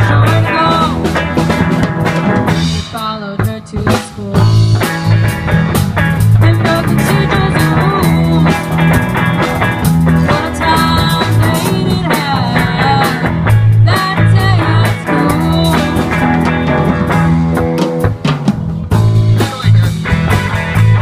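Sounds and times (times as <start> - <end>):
rock blues band playing: 0.0 - 21.0.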